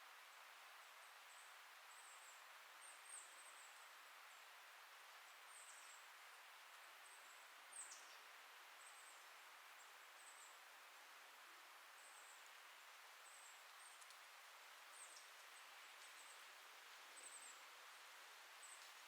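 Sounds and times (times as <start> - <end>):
wind rustling leaves: 0.0 - 19.0.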